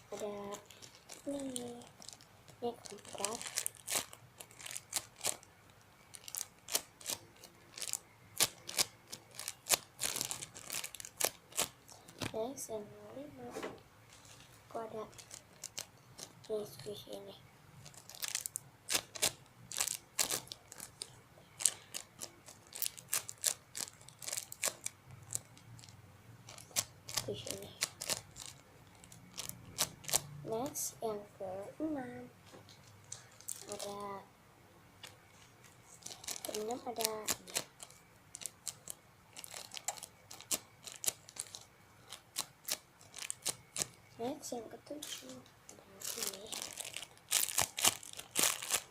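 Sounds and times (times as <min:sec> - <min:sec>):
plastic wrapping crinkling: 0:00.0 - 0:12.5, 0:14.1 - 0:17.1, 0:17.8 - 0:30.7, 0:32.7 - 0:34.2, 0:35.0 - 0:48.9.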